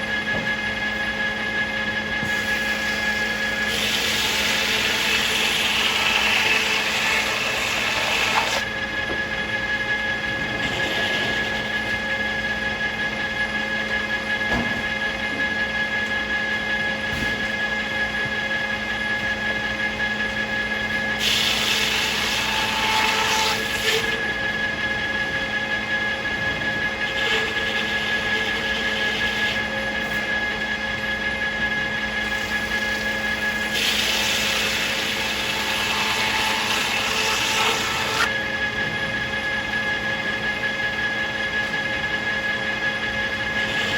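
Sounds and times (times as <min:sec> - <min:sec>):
sawmill machine hum: 0:00.0 - 0:43.9.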